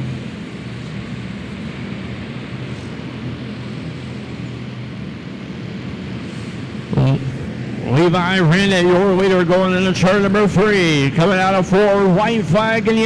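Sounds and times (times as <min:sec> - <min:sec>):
karts racing engine drone: 0:00.0 - 0:13.0.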